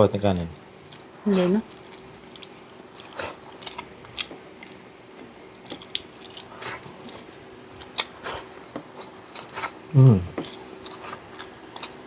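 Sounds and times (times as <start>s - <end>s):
person chewing soft food: 0.6s - 12.0s.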